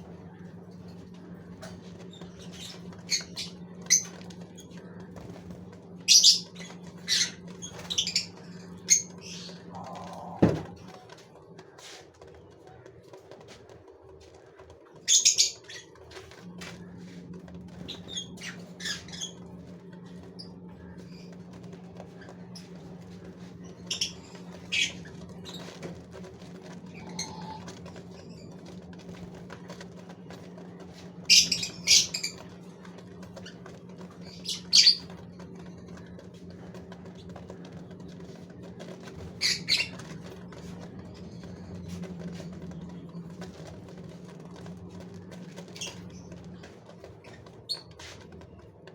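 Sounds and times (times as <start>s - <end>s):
bird wings fluttering: 1.3s - 48.9s.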